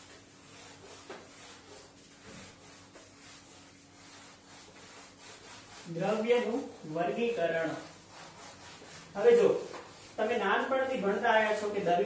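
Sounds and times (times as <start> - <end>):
duster rubbing on a whiteboard: 0.0 - 12.0.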